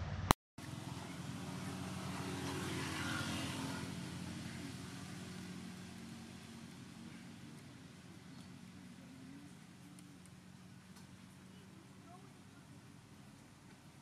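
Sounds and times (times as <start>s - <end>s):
passing vehicle engine hum: 0.0s - 14.0s.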